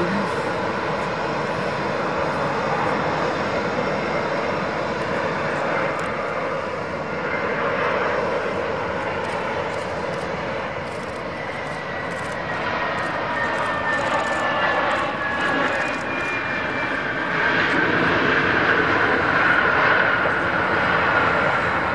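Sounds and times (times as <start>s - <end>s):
jet airliner landing: 0.0s - 21.9s
jet engine whine falling in pitch: 0.0s - 21.9s.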